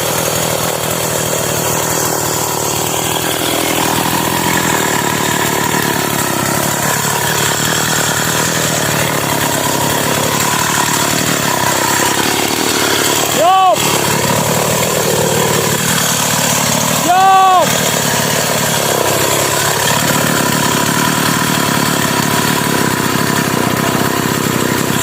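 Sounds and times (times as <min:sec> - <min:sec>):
chainsaw running: 0:00.0 - 0:25.0.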